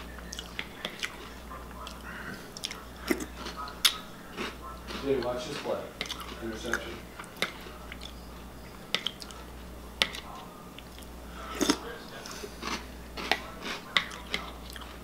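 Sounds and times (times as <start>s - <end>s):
person chewing crunchy cereal: 0.0s - 15.0s.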